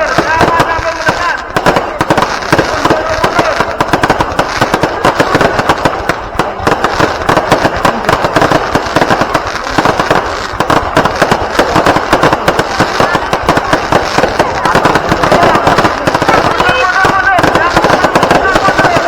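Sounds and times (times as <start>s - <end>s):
fireworks crackle: 0.0s - 19.0s
fireworks cracks and bangs: 0.0s - 19.0s.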